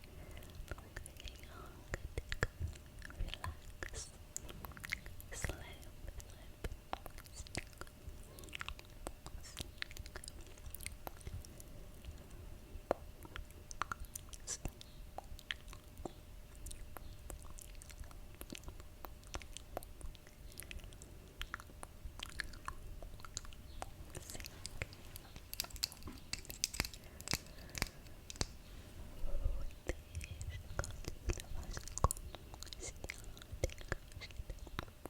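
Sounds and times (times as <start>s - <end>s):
wet mouth clicks: 0.6s - 12.2s, 12.9s - 28.7s, 29.3s - 35.0s.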